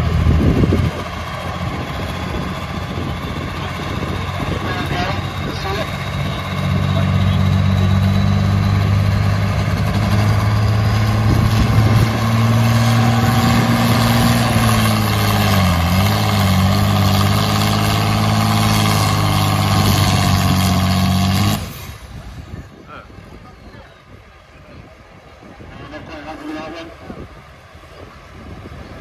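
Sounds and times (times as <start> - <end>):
diesel engine running hard: 0.0 - 29.0.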